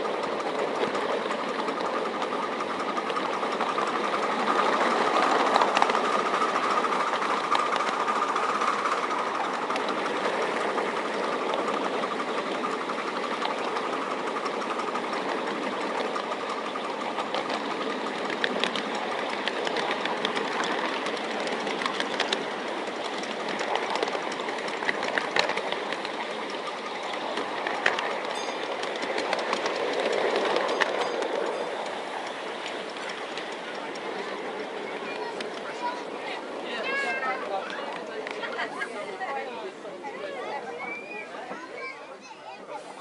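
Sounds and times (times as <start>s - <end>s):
miniature train running on track: 0.0s - 43.0s
wheels clicking over rail joints: 0.0s - 43.0s.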